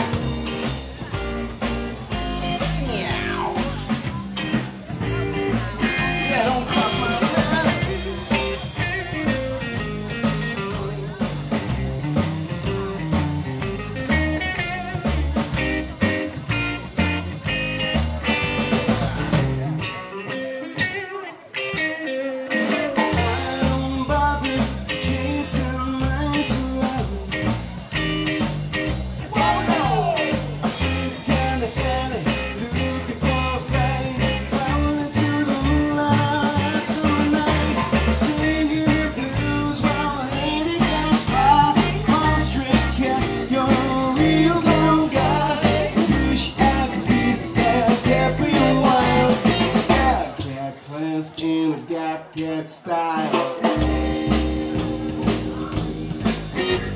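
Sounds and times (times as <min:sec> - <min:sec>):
person singing: 0:00.0 - 0:11.7, 0:18.6 - 0:28.2, 0:29.2 - 0:56.0
slapped upright bass: 0:00.0 - 0:20.2, 0:22.8 - 0:50.5, 0:53.3 - 0:56.9
electric guitar: 0:00.0 - 0:51.0, 0:53.1 - 0:56.9
drums: 0:00.0 - 0:56.9.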